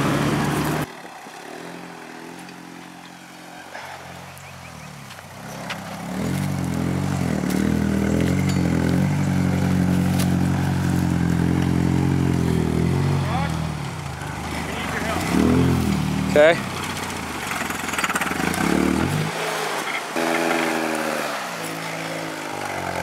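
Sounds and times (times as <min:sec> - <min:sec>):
truck engine pulling at low revs: 0:00.0 - 0:23.0.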